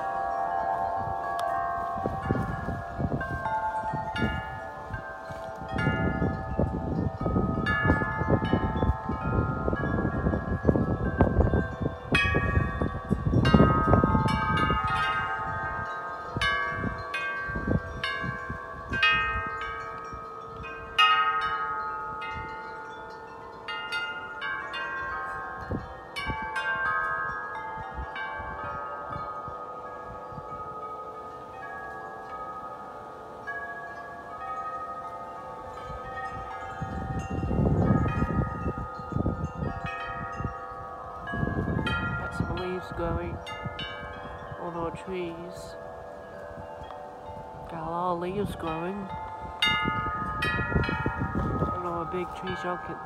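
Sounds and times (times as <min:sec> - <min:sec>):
wind chimes ringing: 0:00.0 - 0:53.0
wind rumble on microphone: 0:00.0 - 0:53.0.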